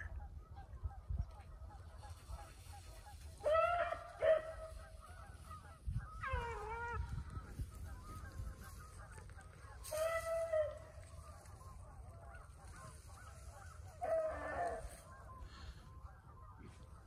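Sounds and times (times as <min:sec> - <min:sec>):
beagles baying: 0:00.0 - 0:17.0
wind rumbling on microphone: 0:00.0 - 0:17.0.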